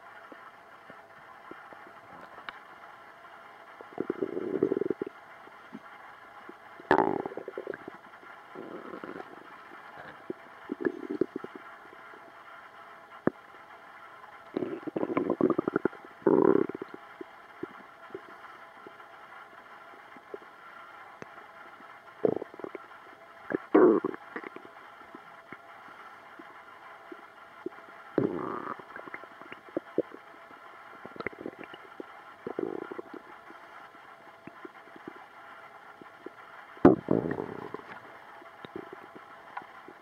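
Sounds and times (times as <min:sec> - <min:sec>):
stomach gurgling and rumbling: 0:03.6 - 0:13.5, 0:14.5 - 0:40.0.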